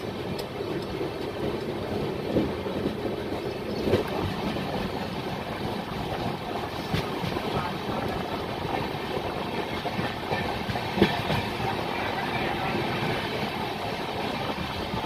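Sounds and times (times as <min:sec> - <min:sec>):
train wheels rumbling on rail: 0:00.0 - 0:15.0
wind on microphone: 0:00.1 - 0:15.0.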